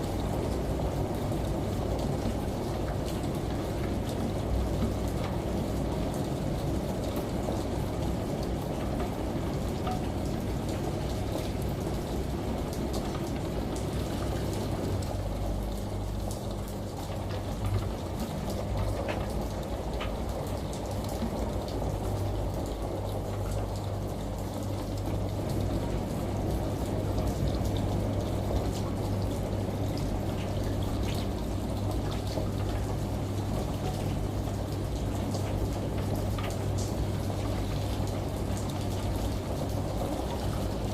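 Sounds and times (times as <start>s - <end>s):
rain and running water: 0.0s - 40.9s
washing machine hum: 0.0s - 40.9s.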